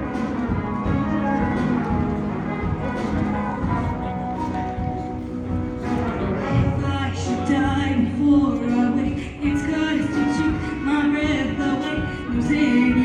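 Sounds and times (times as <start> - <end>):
live band accompaniment: 0.0 - 13.0.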